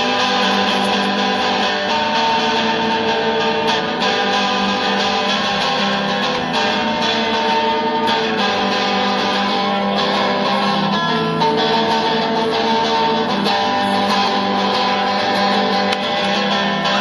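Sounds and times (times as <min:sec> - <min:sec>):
strummed guitar music: 0:00.0 - 0:17.0.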